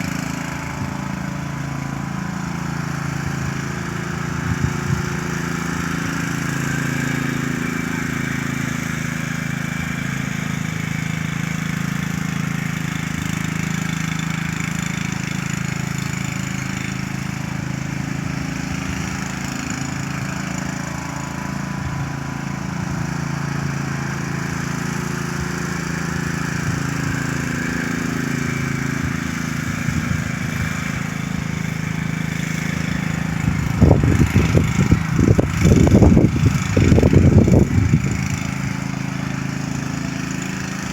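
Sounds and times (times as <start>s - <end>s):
lawn mower engine droning: 0.0s - 40.9s.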